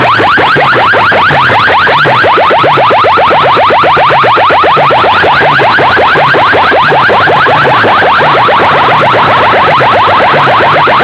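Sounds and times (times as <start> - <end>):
electronic siren-like chirps: 0.0 - 11.0.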